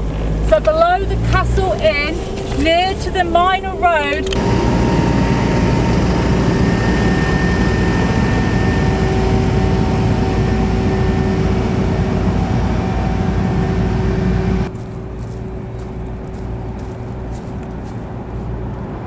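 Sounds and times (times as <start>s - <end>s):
motor vehicle running: 0.0s - 19.0s.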